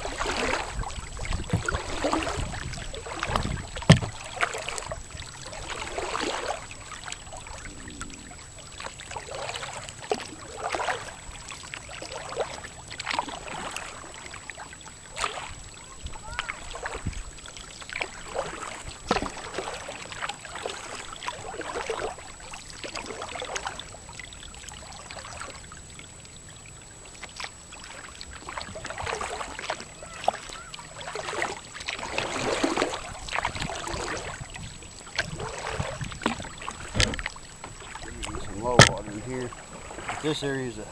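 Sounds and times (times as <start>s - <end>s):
paddle splashing in water: 0.0s - 40.9s.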